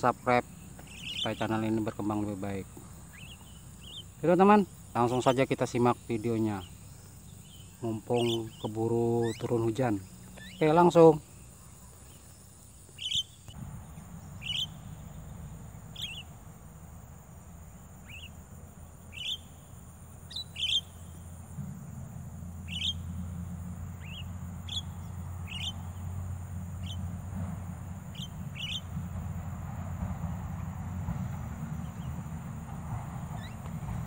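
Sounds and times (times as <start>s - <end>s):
birds calling sharply: 0.0s - 16.6s, 17.7s - 21.6s, 22.5s - 29.0s, 33.2s - 34.0s
low steady rumble: 0.0s - 34.0s.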